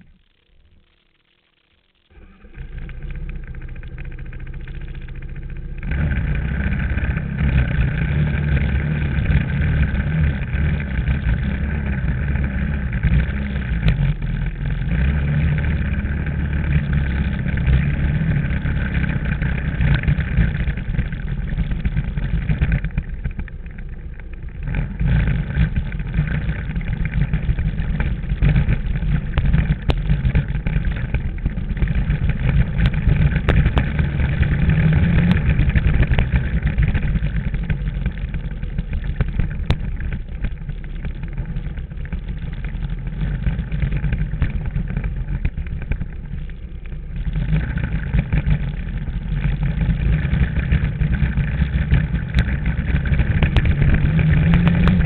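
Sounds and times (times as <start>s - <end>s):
motorbike engine under load: 2.0s - 55.0s.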